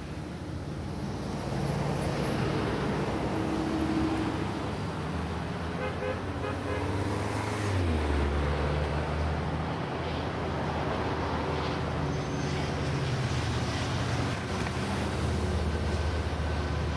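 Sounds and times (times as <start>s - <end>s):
road traffic rumble: 0.0s - 16.9s.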